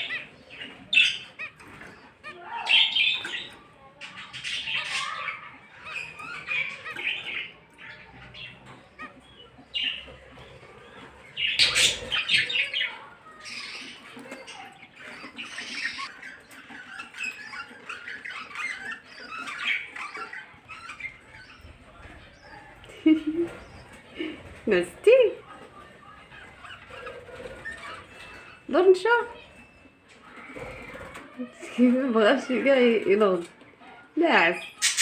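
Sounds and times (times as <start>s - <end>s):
pet birds chirping and squawking: 0.0s - 35.0s.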